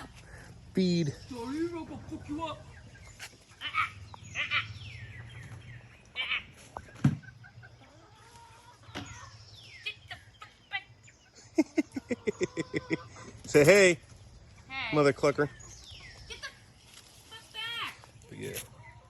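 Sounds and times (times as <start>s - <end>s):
chickens clucking and squawking: 0.0s - 19.0s.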